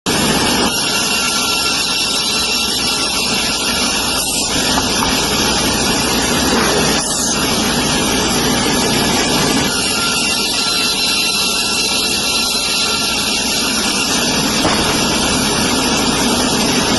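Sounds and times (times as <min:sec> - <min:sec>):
woodworking machinery running: 0:00.1 - 0:16.9.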